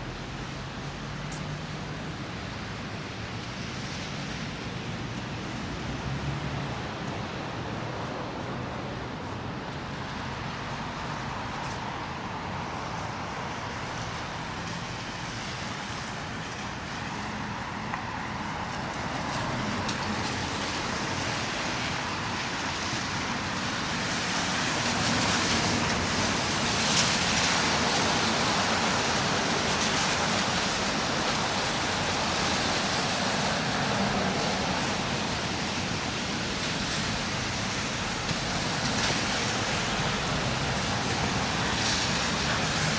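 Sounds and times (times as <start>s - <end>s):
cars driving on snowy roads: 0.0s - 42.9s.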